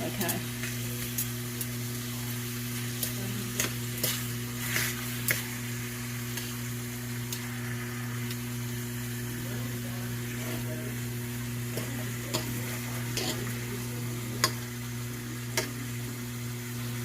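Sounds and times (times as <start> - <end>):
chicken sizzling in a skillet: 0.0 - 17.0
steady low hum: 0.0 - 17.0.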